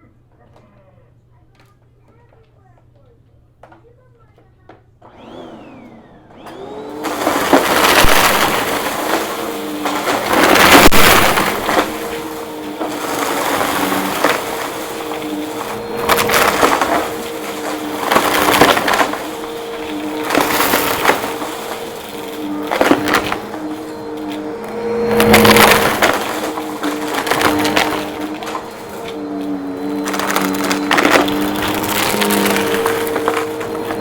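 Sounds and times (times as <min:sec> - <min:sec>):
debris crackling in vacuum: 0:05.0 - 0:34.0
vacuum cleaner motor humming: 0:05.0 - 0:34.0.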